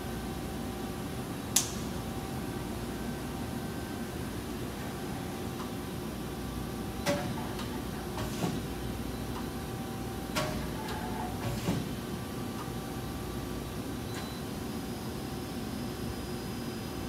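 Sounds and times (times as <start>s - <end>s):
machine shop hum: 0.0s - 17.0s.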